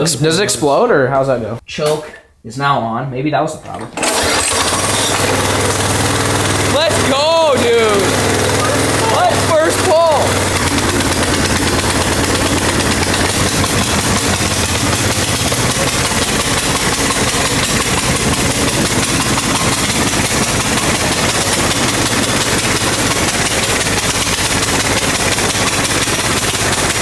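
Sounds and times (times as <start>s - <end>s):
small gas engine idling: 4.0s - 27.0s.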